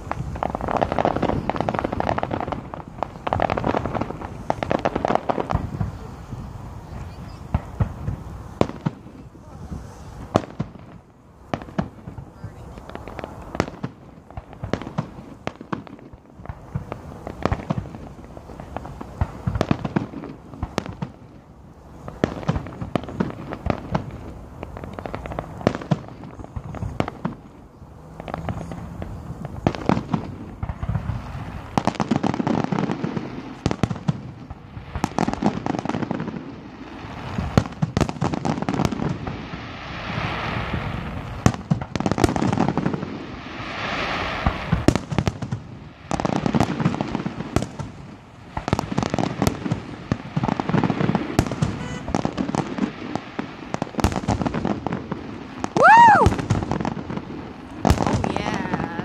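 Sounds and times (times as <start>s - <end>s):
fireworks bangs and pops: 0.0s - 59.0s.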